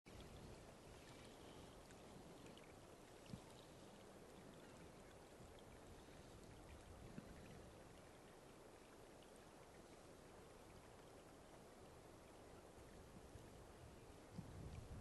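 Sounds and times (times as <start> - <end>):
faint outdoor hiss: 0.1 - 15.0.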